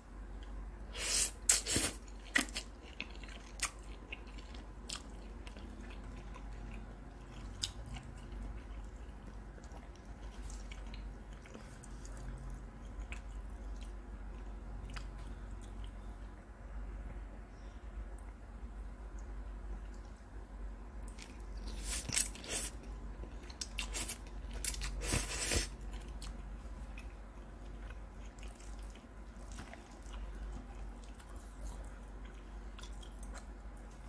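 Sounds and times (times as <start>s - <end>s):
chewing noodles: 1.5s - 16.1s, 21.0s - 34.0s.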